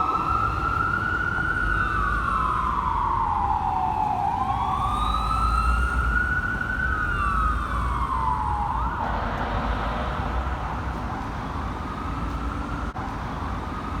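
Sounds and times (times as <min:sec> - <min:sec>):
fire engine siren wailing: 0:00.0 - 0:14.0
truck rumbling on road: 0:00.0 - 0:14.0.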